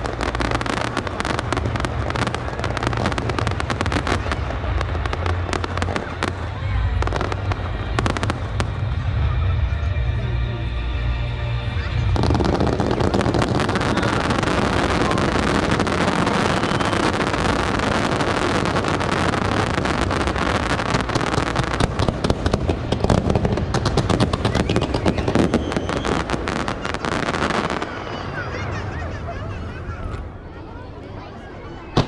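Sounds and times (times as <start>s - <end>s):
fireworks bangs and crackling: 0.0s - 10.5s, 11.5s - 31.0s, 31.6s - 32.0s.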